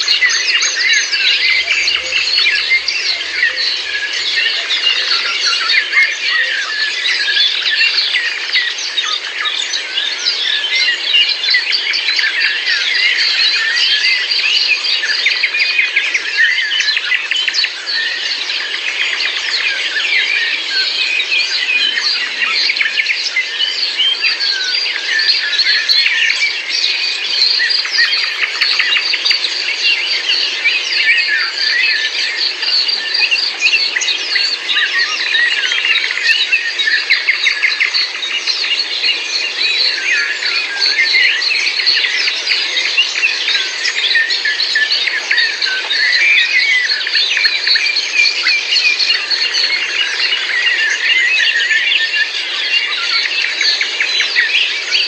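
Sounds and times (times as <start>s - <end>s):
many birds chirping and singing: 0.0s - 55.0s.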